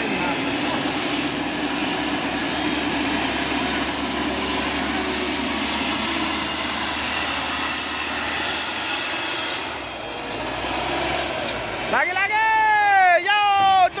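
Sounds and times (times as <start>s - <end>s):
heavy diesel truck engines: 0.0s - 14.0s.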